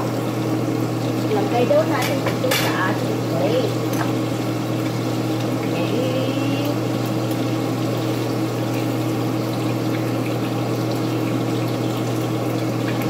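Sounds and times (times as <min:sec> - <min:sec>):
patties sizzling in a frying pan: 0:00.0 - 0:13.0.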